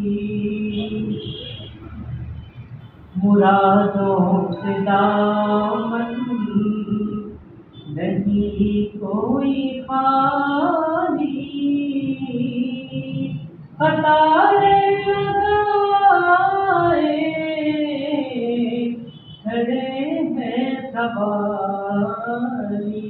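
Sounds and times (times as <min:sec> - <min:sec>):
man singing unaccompanied: 0:03.2 - 0:07.4, 0:08.0 - 0:23.0.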